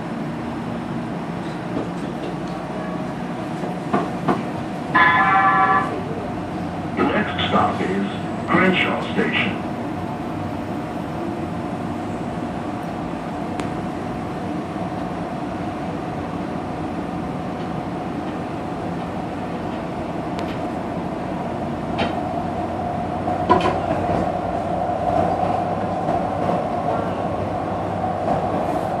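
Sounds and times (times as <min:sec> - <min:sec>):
light-rail car rumble: 0:00.0 - 0:29.0.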